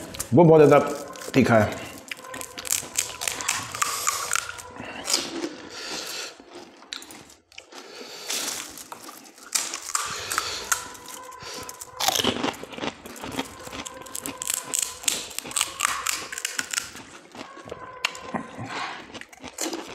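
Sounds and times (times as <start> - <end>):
crisp shells cracking: 0.0 - 5.6, 6.4 - 18.3
crunching and chewing: 0.0 - 19.9.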